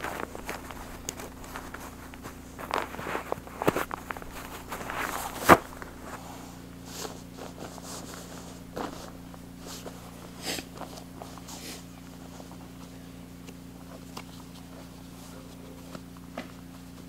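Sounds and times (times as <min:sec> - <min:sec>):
nylon camping gear rustling: 0:00.0 - 0:17.0
steady low hum: 0:00.0 - 0:17.0.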